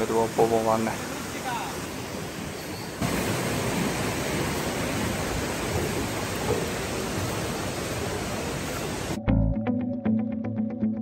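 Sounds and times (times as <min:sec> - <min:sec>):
river water rushing over boulders: 0:00.0 - 0:09.2.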